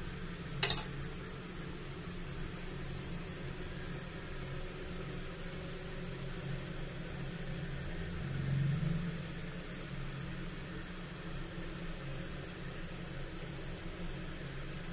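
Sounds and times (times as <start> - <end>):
faint hiss: 0.0 - 14.9
low machine hum: 0.0 - 14.9.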